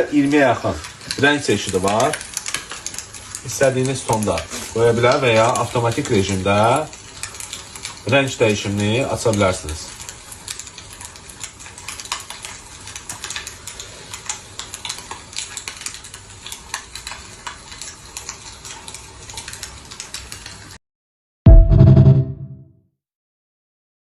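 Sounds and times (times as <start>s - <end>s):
electric fireplace crackling clicks: 0.0s - 20.8s.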